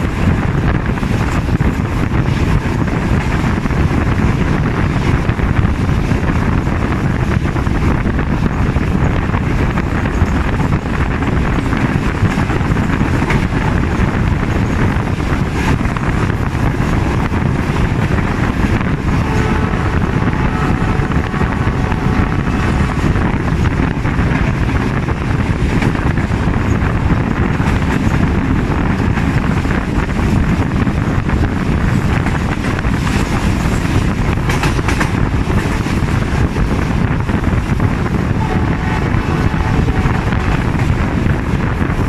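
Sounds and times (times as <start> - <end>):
rushing wind: 0.0 - 42.0
train wheels rumbling on rails: 0.0 - 42.0
wind on microphone: 0.0 - 42.0.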